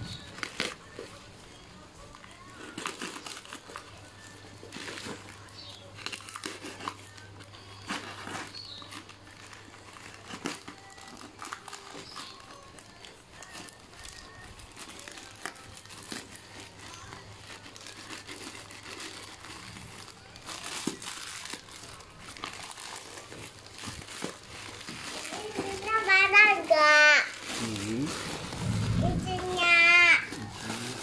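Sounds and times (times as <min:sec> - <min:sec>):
plastic mailer and bubble wrap crinkling: 0:00.0 - 0:31.0.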